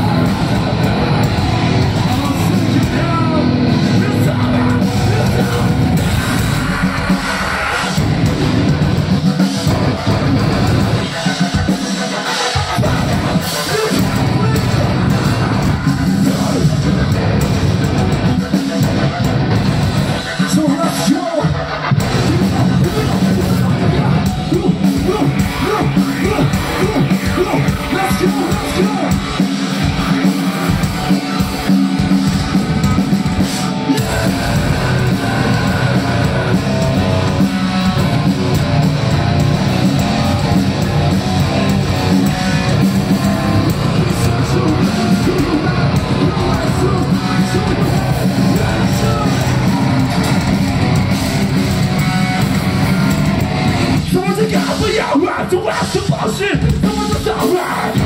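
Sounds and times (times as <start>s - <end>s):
vocalist singing: 0.0s - 19.2s, 20.2s - 50.9s, 53.8s - 58.0s
heavy rock band playing: 0.0s - 58.0s.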